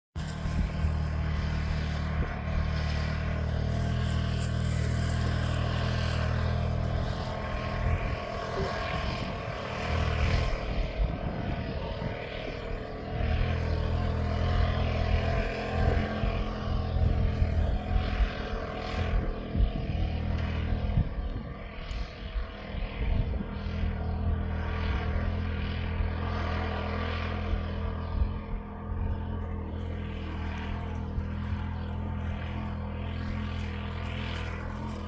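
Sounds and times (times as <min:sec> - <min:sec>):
off-road vehicle engine: 0:00.0 - 0:35.0.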